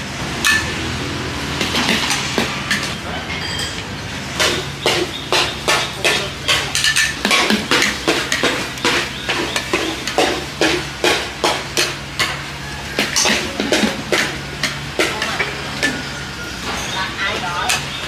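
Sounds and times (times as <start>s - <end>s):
food sizzling: 0.0s - 18.0s
low burner hum: 0.0s - 18.0s
metal spatula scraping wok: 0.4s - 18.0s.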